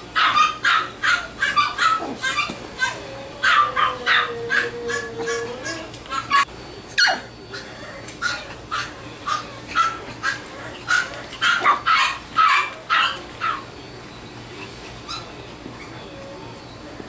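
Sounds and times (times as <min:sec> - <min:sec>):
puppies yapping: 0:00.0 - 0:17.0.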